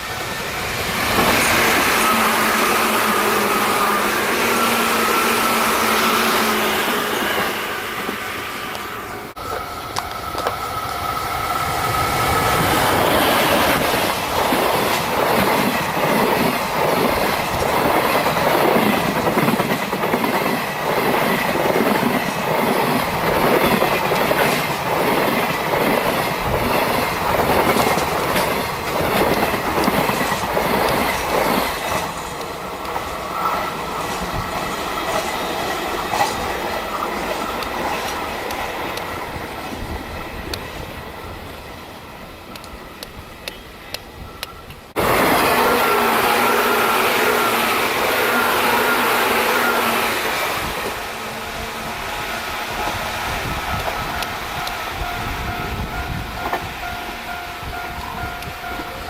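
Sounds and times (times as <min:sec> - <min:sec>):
electric train passing at speed: 0:00.0 - 0:59.0.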